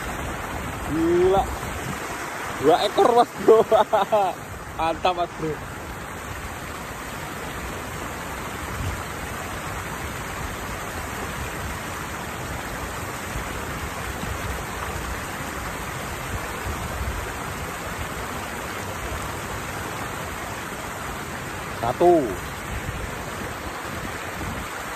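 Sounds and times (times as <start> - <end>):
water rushing down weir: 0.0 - 24.9.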